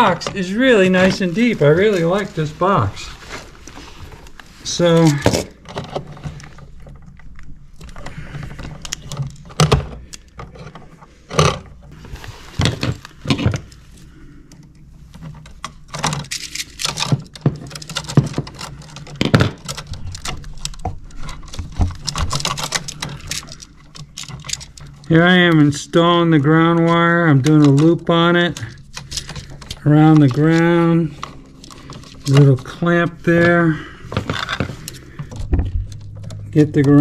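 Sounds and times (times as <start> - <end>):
clicks taps and rustles of wiring: 0.0 - 37.0
low steady hum: 0.0 - 37.0.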